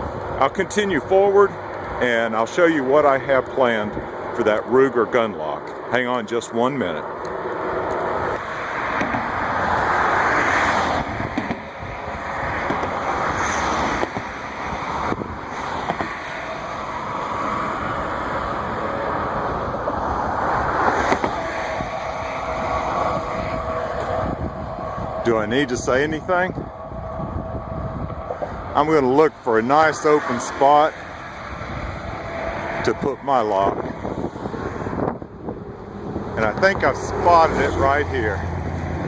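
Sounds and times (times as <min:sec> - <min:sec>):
vehicles passing on busy road: 0:00.0 - 0:39.0.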